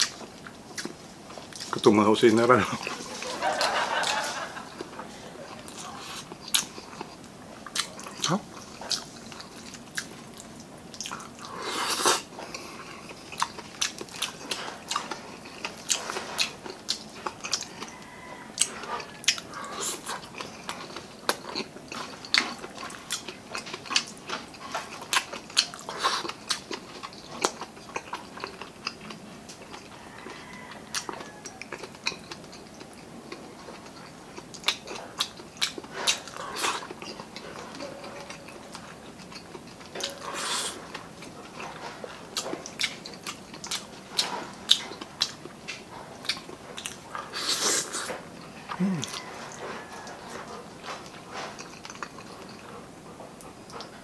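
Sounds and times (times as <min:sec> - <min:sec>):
wet chewing and lip smacks: 0:00.0 - 0:01.9, 0:02.7 - 0:54.0.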